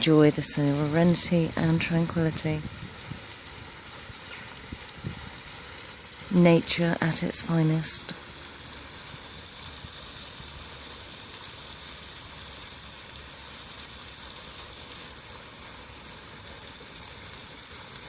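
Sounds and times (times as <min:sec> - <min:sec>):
running water hiss: 0:00.0 - 0:18.0.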